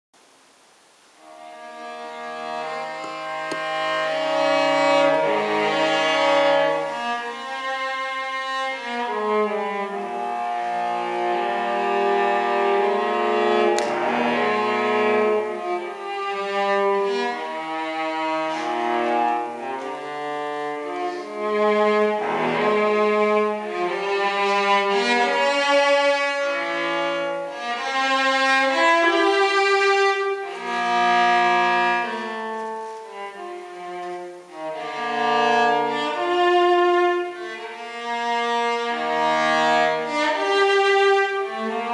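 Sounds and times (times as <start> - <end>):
bowed cello: 1.2 - 41.9.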